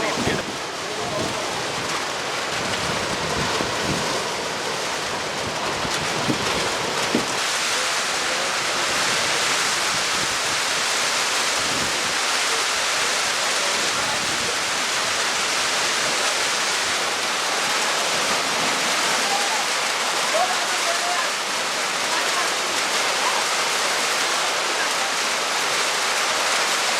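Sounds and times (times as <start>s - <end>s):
rushing water: 0.0s - 26.9s.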